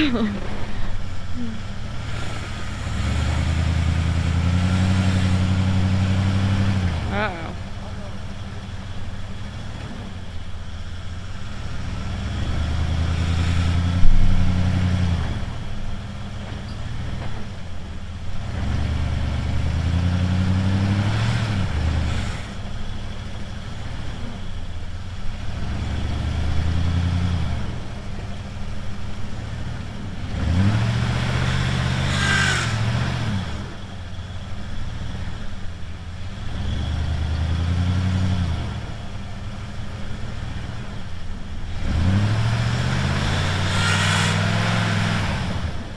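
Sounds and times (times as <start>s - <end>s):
pickup engine revving: 0.0s - 45.9s.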